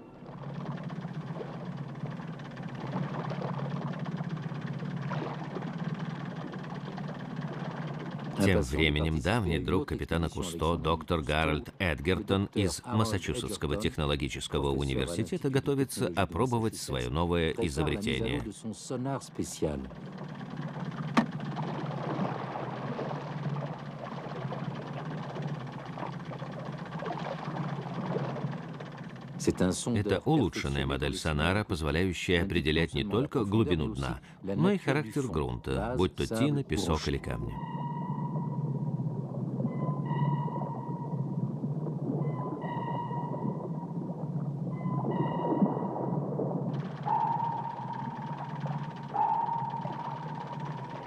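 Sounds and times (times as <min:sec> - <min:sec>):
motorboat engine humming: 0:00.0 - 0:51.0.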